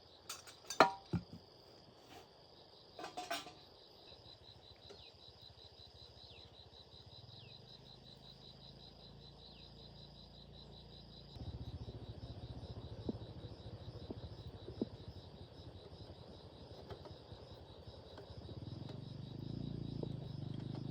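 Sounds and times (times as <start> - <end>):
cricket chirping: 0.0 - 20.9.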